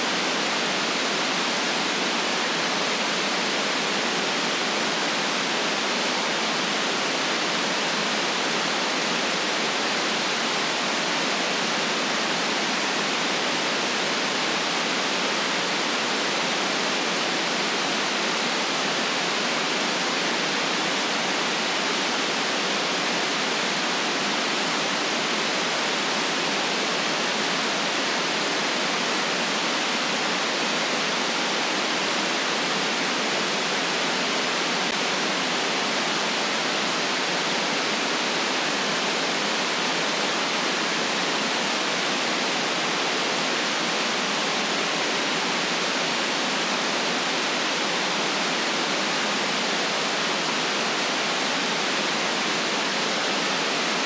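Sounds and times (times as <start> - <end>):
steady synthetic noise hiss: 0.0 - 54.0.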